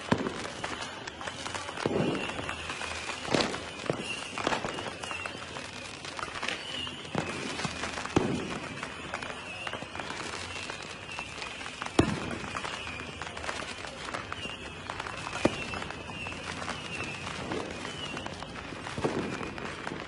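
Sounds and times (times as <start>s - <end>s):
fireworks bursting with echo: 0.0s - 20.0s
light fireworks pops: 0.0s - 20.0s.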